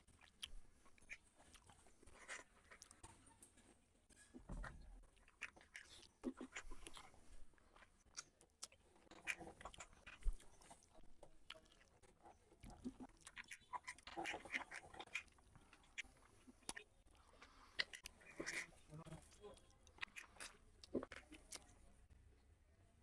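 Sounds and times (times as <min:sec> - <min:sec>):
person chewing food: 0:00.0 - 0:04.0, 0:04.9 - 0:22.0.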